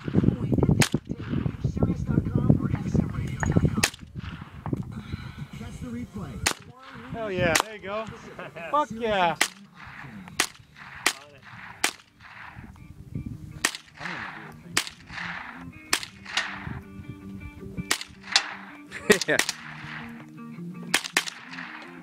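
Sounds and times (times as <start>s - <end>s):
rifle shots with echo: 0.0s - 2.8s, 3.4s - 4.8s, 6.4s - 12.9s, 13.6s - 17.0s, 17.8s - 22.0s.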